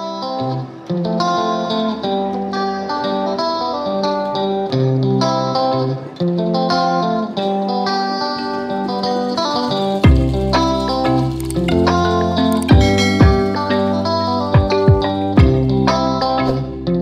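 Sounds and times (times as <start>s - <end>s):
guitar background music: 0.0s - 17.0s.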